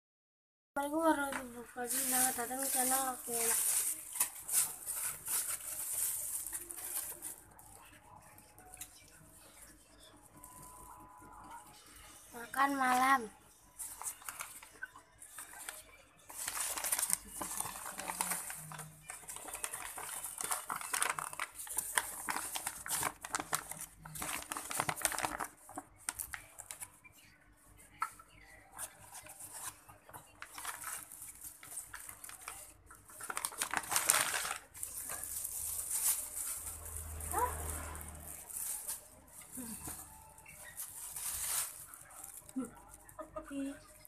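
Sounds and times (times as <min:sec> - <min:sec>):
plastic bag rustling: 0:01.0 - 0:08.7, 0:12.4 - 0:27.0, 0:28.8 - 0:43.8.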